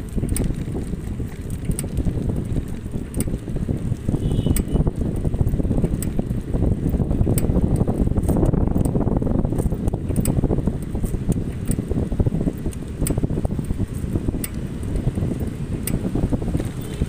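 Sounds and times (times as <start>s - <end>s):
bicycle ticks and rattles: 0.0s - 17.0s
wind buffeting microphone: 0.0s - 17.0s.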